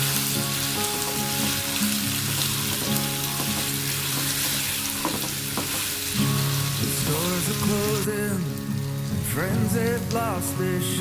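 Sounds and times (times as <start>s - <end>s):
background music with held notes: 0.0s - 11.0s
food sizzling in hot oil: 0.0s - 11.0s.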